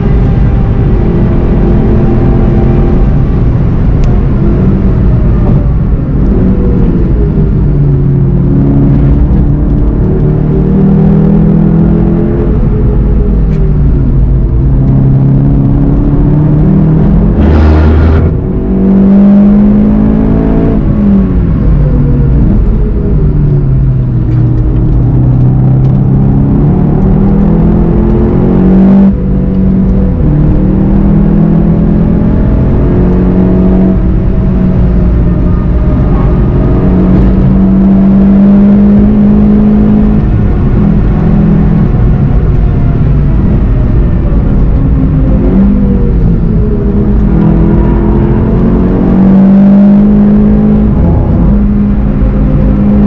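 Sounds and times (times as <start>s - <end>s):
car engine accelerating hard: 0.0s - 53.0s.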